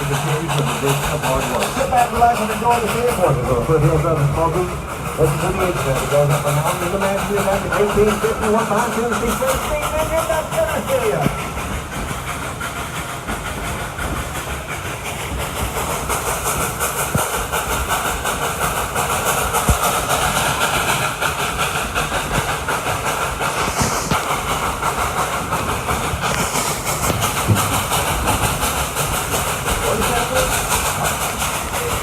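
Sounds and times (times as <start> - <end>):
steam hiss and running noise: 0.0 - 32.0
train cars clattering on rails: 0.0 - 32.0.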